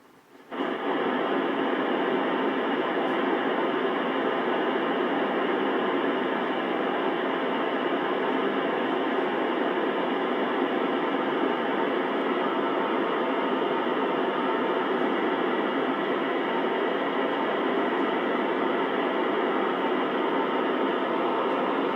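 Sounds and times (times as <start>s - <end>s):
radio static hiss: 0.1s - 21.9s.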